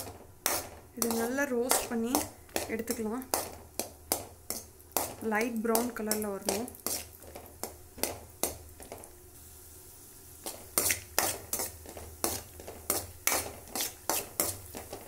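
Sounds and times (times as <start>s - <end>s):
metal spoon scraping pan: 0.0s - 9.1s, 10.4s - 15.0s
nuts sizzling in oil: 0.0s - 15.0s.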